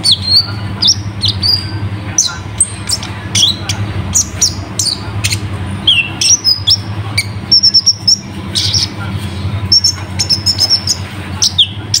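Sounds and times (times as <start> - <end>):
sunbird singing chirps and trills: 0.0 - 12.0.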